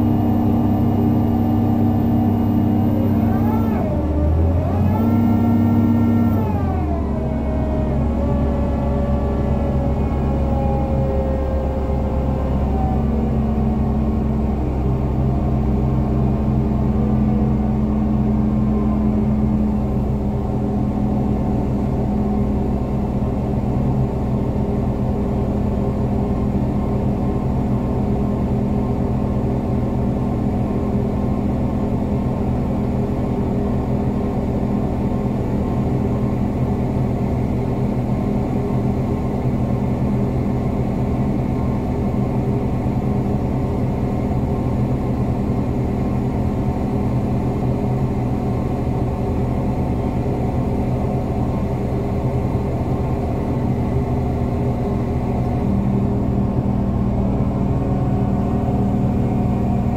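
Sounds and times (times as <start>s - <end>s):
crane engine humming: 0.0s - 59.9s.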